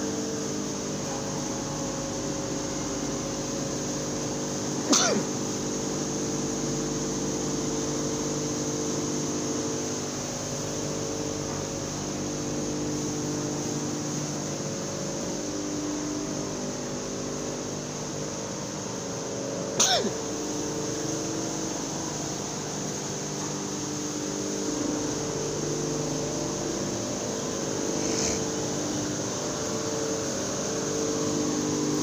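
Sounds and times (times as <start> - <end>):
mill machinery hum: 0.0 - 32.0.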